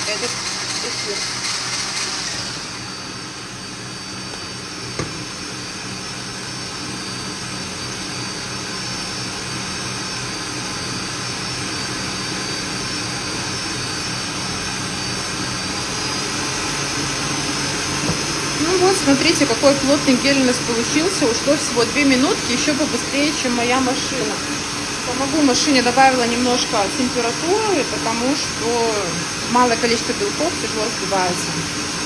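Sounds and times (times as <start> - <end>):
electric mixer motor whine: 0.0 - 32.0.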